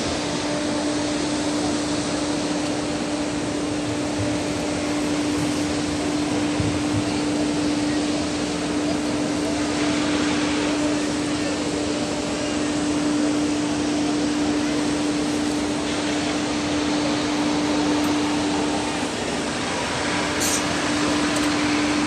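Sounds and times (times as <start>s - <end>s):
blower droning with rushing air: 0.0s - 22.0s.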